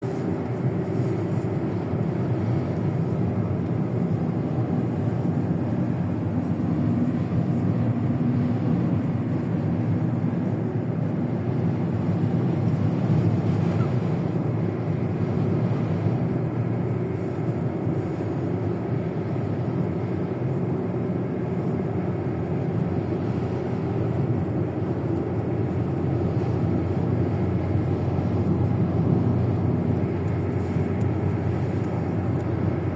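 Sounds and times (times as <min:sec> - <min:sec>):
car engine rumble: 0:00.0 - 0:32.9
wind noise: 0:00.0 - 0:32.9.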